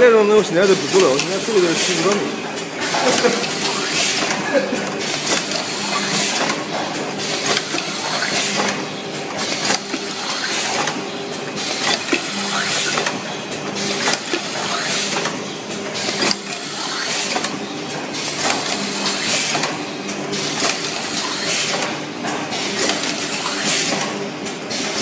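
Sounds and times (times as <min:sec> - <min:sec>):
machine humming: 0:00.0 - 0:25.0
machine clacks: 0:00.3 - 0:25.0.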